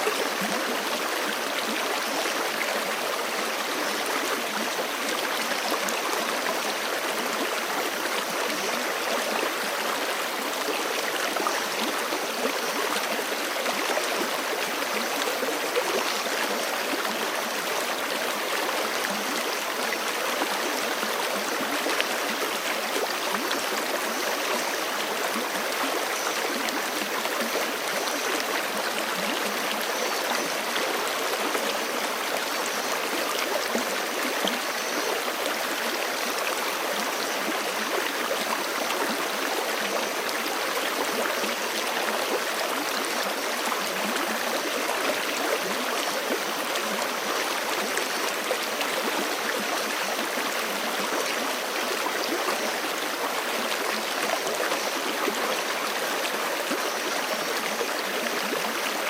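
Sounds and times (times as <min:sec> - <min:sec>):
creek flowing over rocks: 0:00.0 - 0:59.0.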